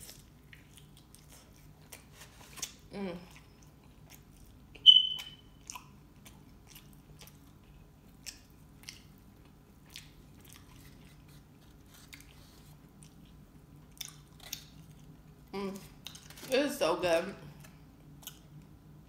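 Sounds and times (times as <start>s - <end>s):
person chewing: 0.0s - 16.4s, 17.6s - 18.7s.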